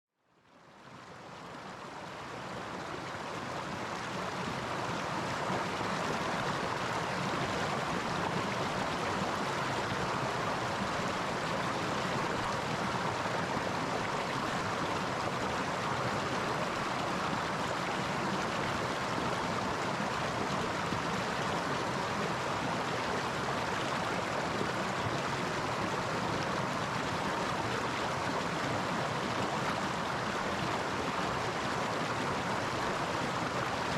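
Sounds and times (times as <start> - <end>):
river rushing over rocks: 1.6 - 33.9.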